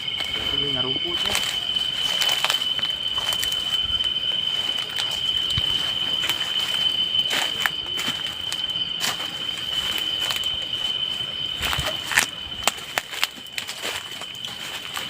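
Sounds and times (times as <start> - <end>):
footsteps through grass and leaves: 0.0 - 15.0
night insects trilling: 0.0 - 15.0.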